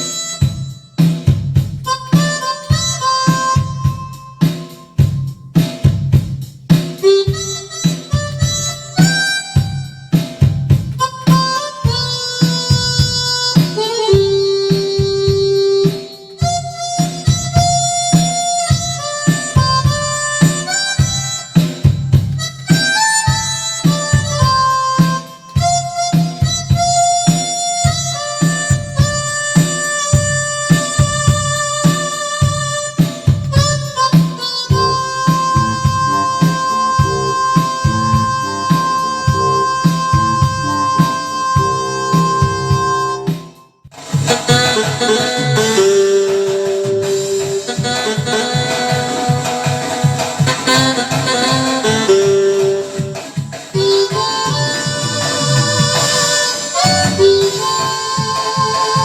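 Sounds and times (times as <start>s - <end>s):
backing beat with bass: 0.0s - 59.0s
synthesizer harmonica melody: 0.0s - 59.0s.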